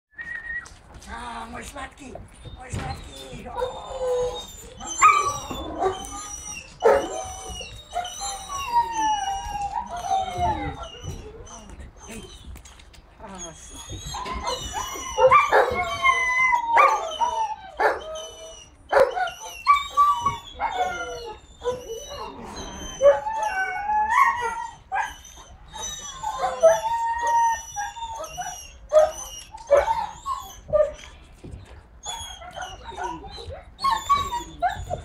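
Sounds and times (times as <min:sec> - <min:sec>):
puppy yipping and whining: 0:02.3 - 0:35.0.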